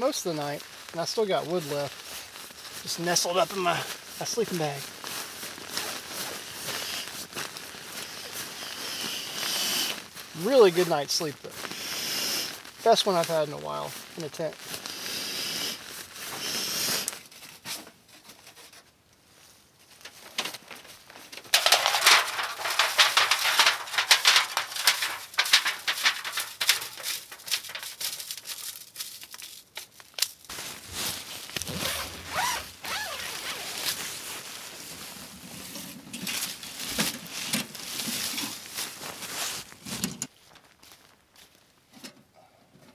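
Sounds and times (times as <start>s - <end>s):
gear rustling and crinkling: 0.0s - 42.1s.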